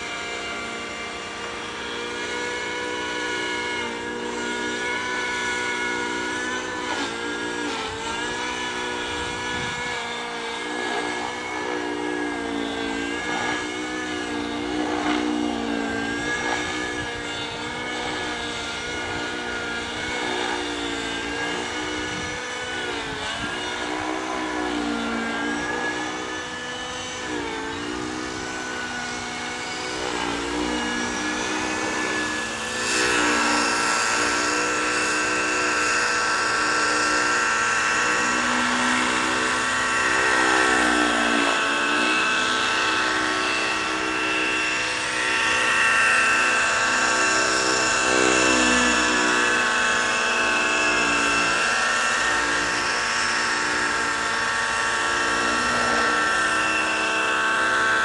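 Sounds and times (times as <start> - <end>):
model helicopter engine whine: 0.0 - 58.0.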